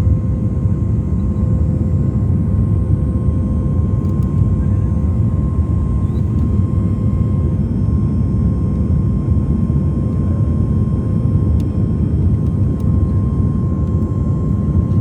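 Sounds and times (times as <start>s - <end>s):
faint steady whine: 0.0s - 15.0s
jet engines rumbling in cabin: 0.0s - 15.0s.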